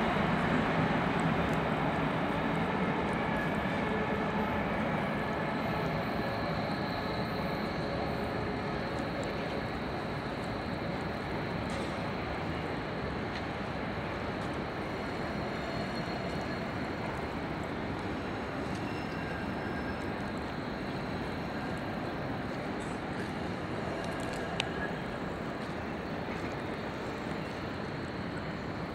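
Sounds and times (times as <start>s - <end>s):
railway station background noise: 0.0s - 28.9s.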